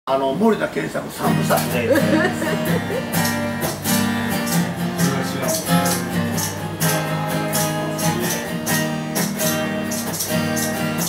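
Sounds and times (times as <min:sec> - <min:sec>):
acoustic guitar strumming: 0:01.0 - 0:11.0.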